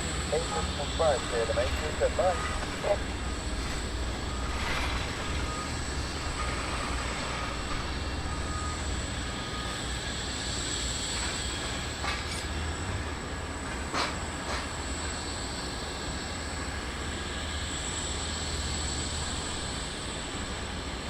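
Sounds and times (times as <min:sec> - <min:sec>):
high engine whine: 0:00.0 - 0:21.0
jet engines rumbling: 0:00.0 - 0:21.0.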